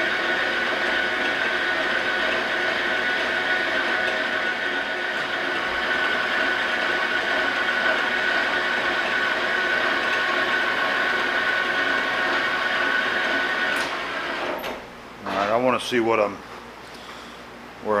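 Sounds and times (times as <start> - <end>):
metal lathe gear whine: 0.0 - 14.8.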